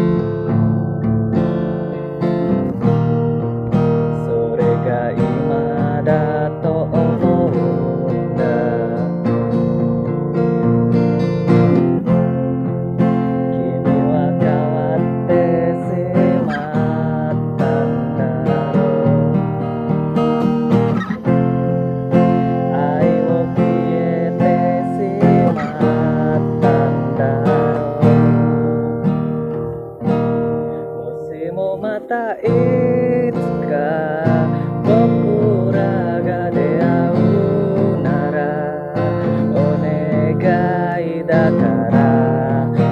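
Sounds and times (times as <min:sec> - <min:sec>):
person singing: 0:00.0 - 0:10.4, 0:11.4 - 0:42.9
acoustic guitar strummed and picked: 0:00.0 - 0:42.9.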